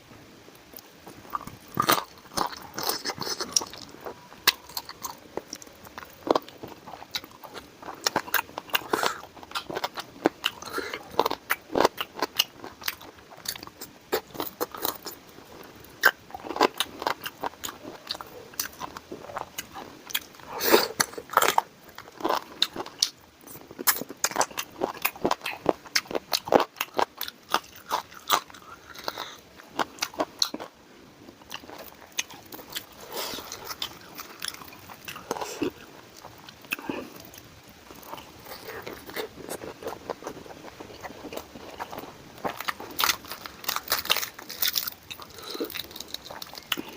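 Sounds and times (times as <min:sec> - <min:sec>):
man chewing and crunching food: 0:00.5 - 0:46.9.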